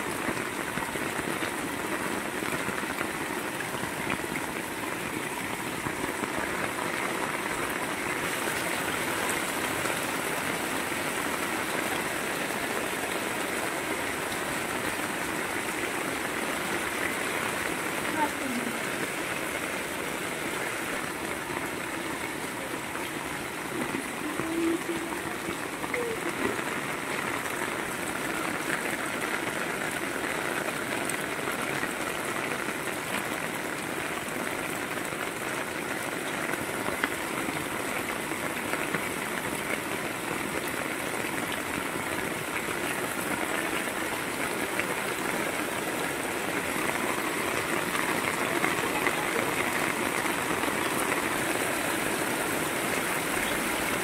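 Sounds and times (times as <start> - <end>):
heavy rain on sheet roofs: 0.0 - 54.0
runoff gushing off roof: 0.0 - 54.0.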